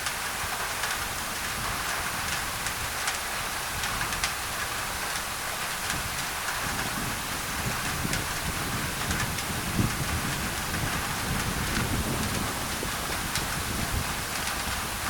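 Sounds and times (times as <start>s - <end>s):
rain on a tin roof: 0.0s - 15.0s.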